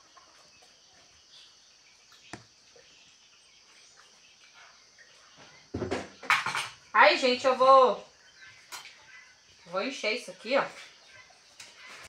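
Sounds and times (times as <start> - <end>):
faint bird chirps: 0.0 - 12.0
insects droning: 0.0 - 12.0.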